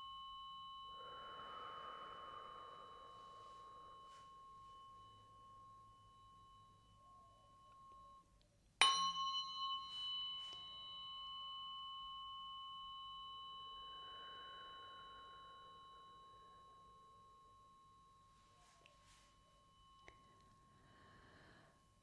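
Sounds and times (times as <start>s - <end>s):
tuning forks ringing: 0.0s - 21.8s.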